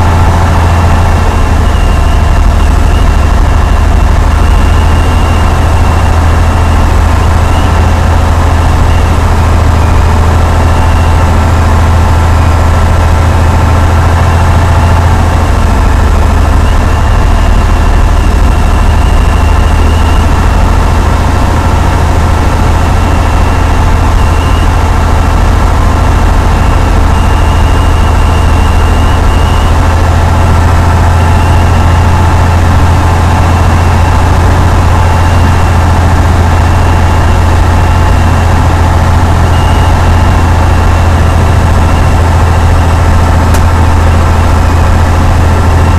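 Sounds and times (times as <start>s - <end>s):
propeller aircraft engine drone: 0.0s - 45.9s.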